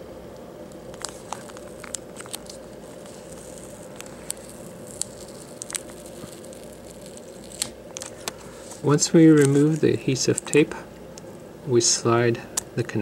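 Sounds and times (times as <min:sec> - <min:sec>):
steady background hum: 0:00.0 - 0:13.0
adhesive tape peeling crackles: 0:00.7 - 0:11.3.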